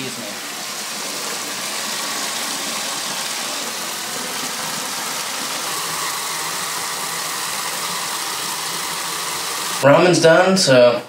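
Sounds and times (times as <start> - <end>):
water running into bathtub: 0.0 - 10.0.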